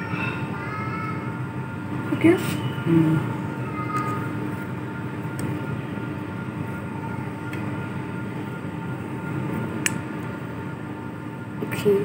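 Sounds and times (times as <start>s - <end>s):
steady droning with humming tones: 0.0s - 12.0s.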